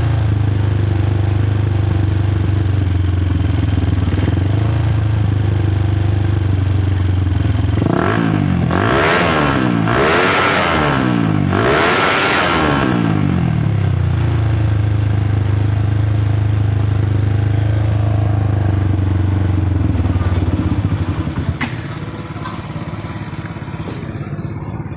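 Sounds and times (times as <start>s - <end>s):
motorcycle engine revving and idling: 0.0s - 24.9s.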